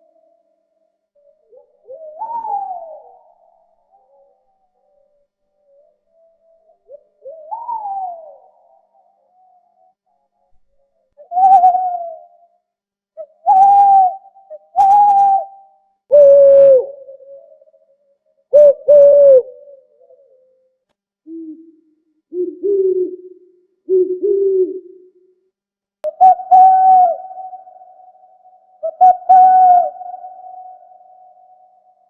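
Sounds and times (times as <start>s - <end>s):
owl hooting: 1.2s - 4.5s, 5.6s - 9.8s, 11.2s - 12.5s, 13.2s - 17.9s, 18.5s - 25.2s, 26.1s - 32.0s.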